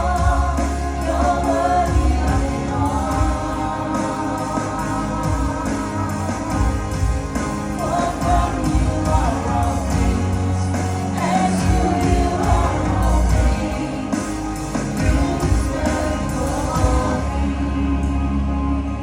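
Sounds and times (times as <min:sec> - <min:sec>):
band playing sustained chords: 0:00.0 - 0:19.0
bass line: 0:00.0 - 0:19.0
singing voices: 0:00.0 - 0:19.0.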